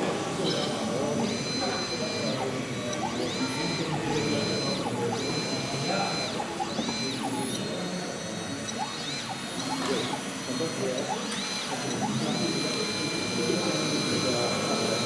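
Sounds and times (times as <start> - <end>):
crowd murmur: 0.0 - 15.0
small electric motor whining: 0.0 - 15.0.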